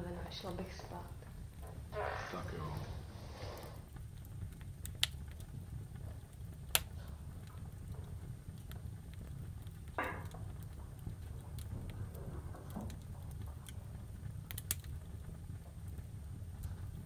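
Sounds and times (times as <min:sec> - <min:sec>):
low hum of room tone: 0:00.0 - 0:17.0.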